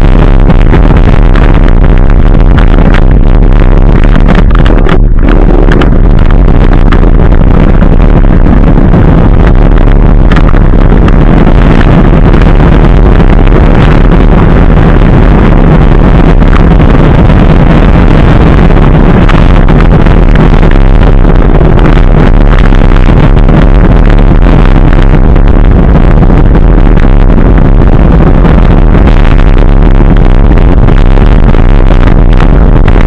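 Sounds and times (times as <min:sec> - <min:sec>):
wheel rumble on gravel: 0:00.0 - 0:33.0
wind noise on microphone: 0:00.0 - 0:33.0.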